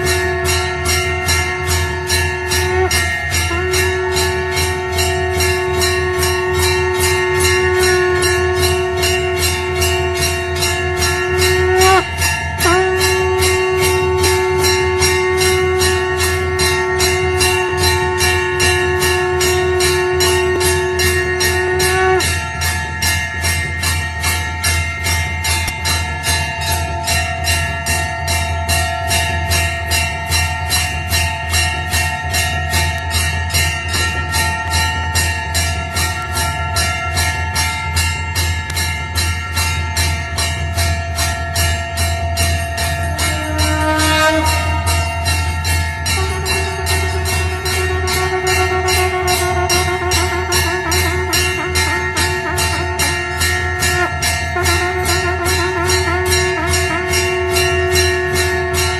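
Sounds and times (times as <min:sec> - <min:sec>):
constant low drone: 0:00.0 - 0:58.9
steady held tone: 0:00.0 - 0:58.9
temple bells ringing fast: 0:00.0 - 0:58.9.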